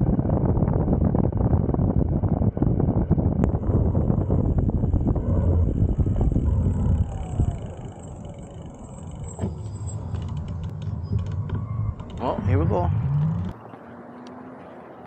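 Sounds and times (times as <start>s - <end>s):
wind rumble on microphone: 0.0s - 13.6s.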